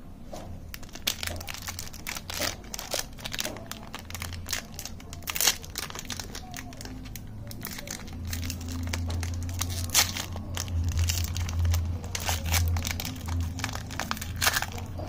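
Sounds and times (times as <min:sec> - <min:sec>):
low steady hum: 0:00.0 - 0:15.0
wrapper crinkling and tearing: 0:00.7 - 0:15.0.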